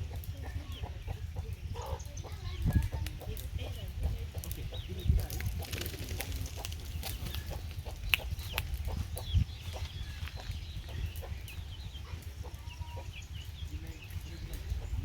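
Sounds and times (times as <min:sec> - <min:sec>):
chickens clucking: 0:00.0 - 0:15.0
steady low rumble: 0:00.0 - 0:15.0.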